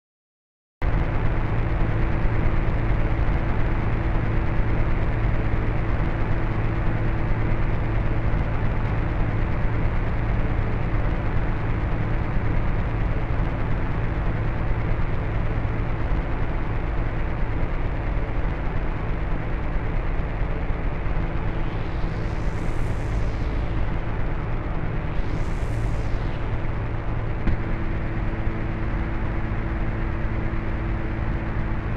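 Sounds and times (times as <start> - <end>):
low rumbling drone: 0.8 - 31.9.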